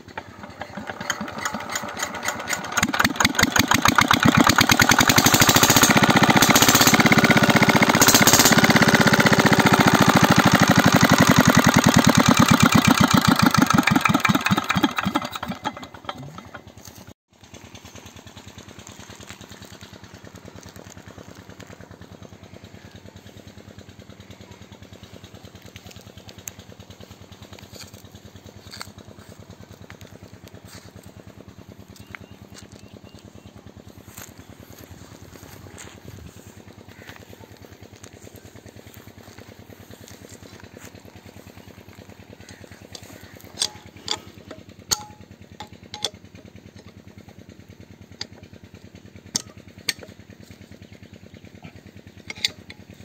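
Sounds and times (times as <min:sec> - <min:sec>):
small diesel engine running: 0:00.0 - 0:53.0.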